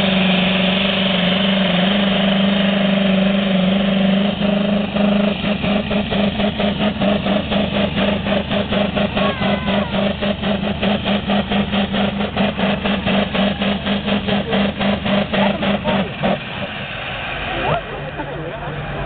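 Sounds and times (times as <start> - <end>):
tractor engine pulsing: 0.0 - 19.0.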